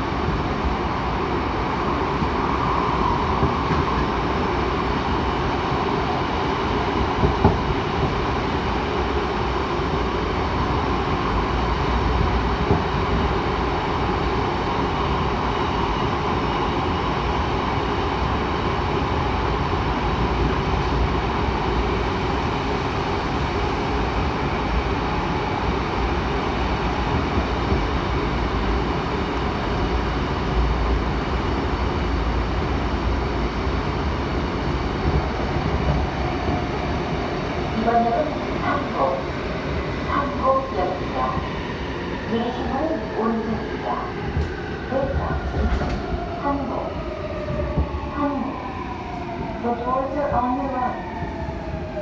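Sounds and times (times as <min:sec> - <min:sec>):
subway train rumbling: 0:00.0 - 0:52.0.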